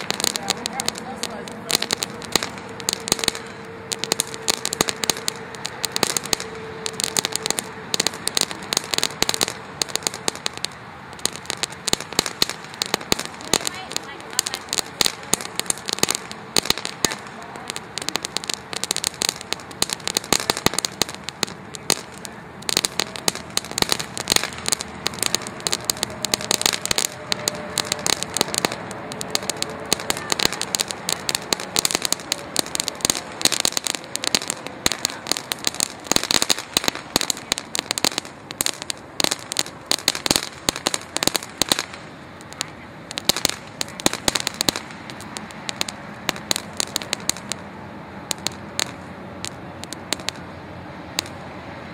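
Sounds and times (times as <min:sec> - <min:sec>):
firework crackling and popping: 0:00.0 - 0:51.5.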